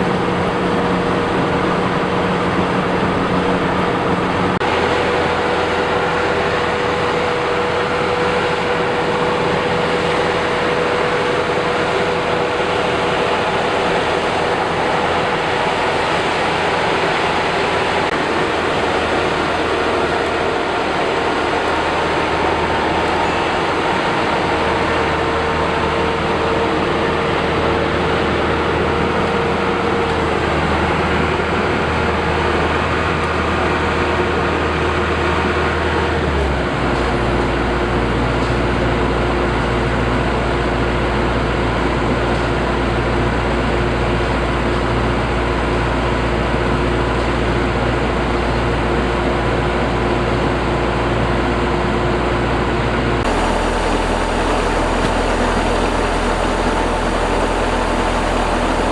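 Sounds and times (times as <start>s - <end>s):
combine harvester engine drone: 0.0s - 58.9s
whining threshing machinery: 0.0s - 58.9s.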